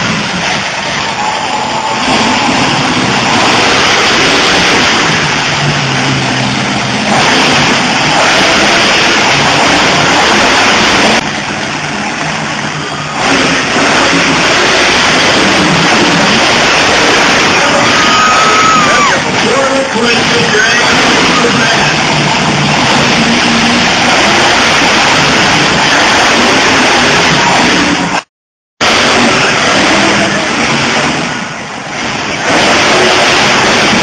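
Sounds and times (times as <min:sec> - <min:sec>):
truck engines revving hard: 0:00.0 - 0:34.0.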